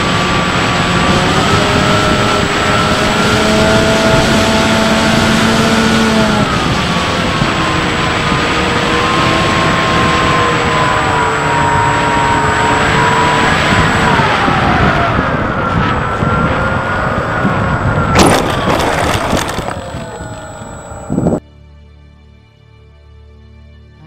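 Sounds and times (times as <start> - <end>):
electric motor and propeller whining: 0.0 - 21.4
wind rush: 0.0 - 21.4.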